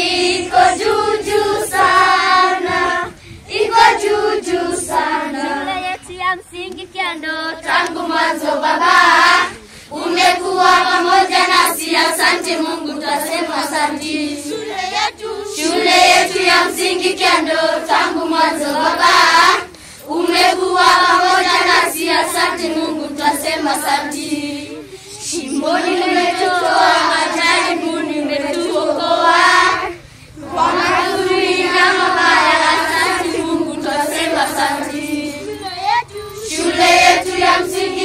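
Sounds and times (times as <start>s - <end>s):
children's choir singing: 0.0s - 6.0s, 6.6s - 38.0s.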